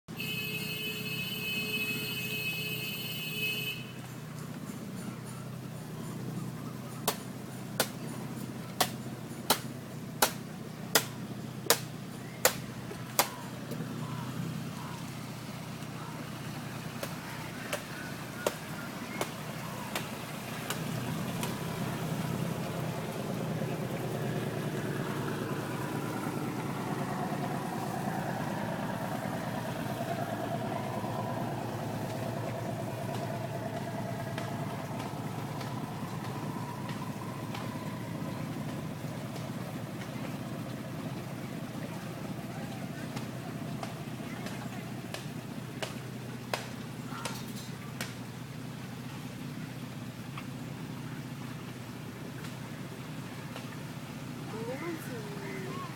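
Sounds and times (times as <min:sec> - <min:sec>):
boat engine humming: 0:00.0 - 0:55.9.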